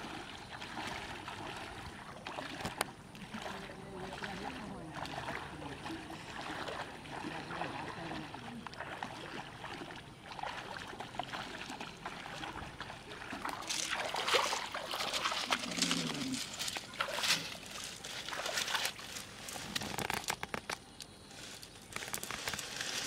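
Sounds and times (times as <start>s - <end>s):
water sloshing around wading legs: 0.0s - 23.0s.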